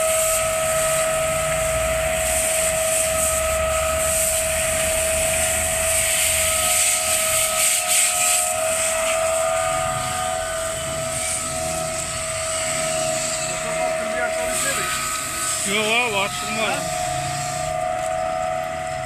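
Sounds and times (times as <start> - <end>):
steady whining tone: 0.0 - 19.0
water spray hissing: 0.1 - 17.8.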